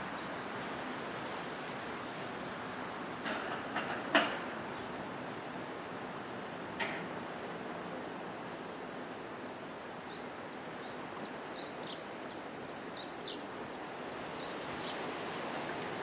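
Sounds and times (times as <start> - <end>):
wind rustling trees: 0.0 - 16.0.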